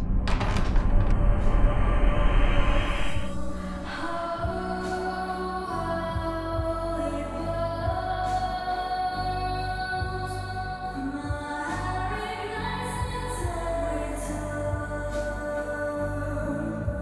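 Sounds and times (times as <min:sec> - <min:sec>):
soft music: 0:03.0 - 0:17.0
woman singing: 0:03.2 - 0:17.0.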